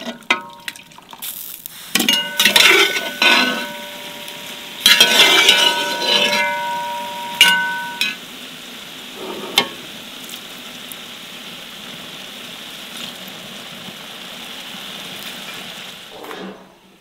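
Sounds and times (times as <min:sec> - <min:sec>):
food sizzling in fat: 0:00.0 - 0:16.7.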